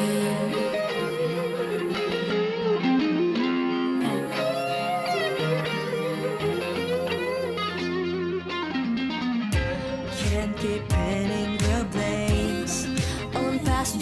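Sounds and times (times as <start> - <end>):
electric guitar lead line: 0.0 - 14.0.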